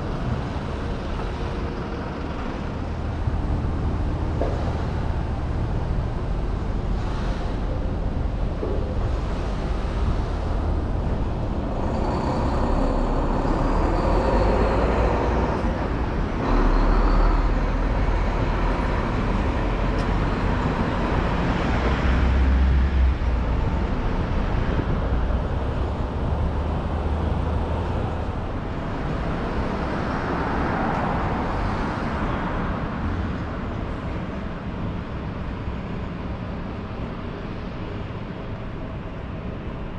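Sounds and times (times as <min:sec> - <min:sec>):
cars and trucks passing: 0:00.0 - 0:39.9
low traffic rumble: 0:00.0 - 0:39.9.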